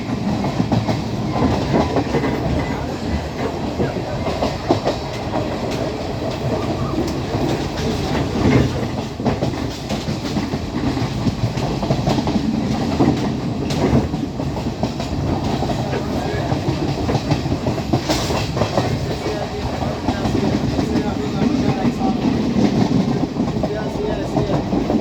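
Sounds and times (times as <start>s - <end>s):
train rumbling: 0.0s - 25.0s
wheels clicking over rail joints: 0.0s - 25.0s.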